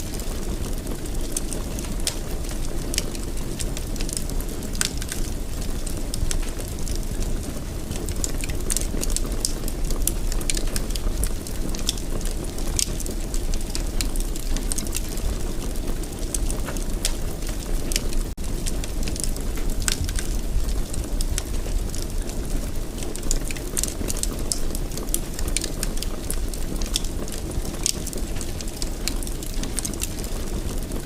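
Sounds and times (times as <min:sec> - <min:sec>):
fire crackling in a fireplace: 0:00.0 - 0:31.0.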